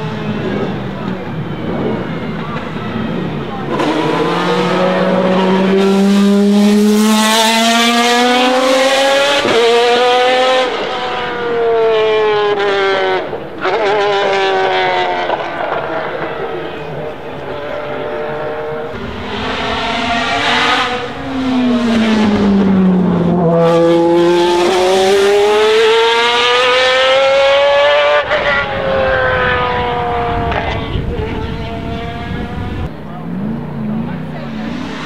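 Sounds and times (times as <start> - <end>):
race car engine accelerating past: 1.6 - 16.7, 17.5 - 35.0.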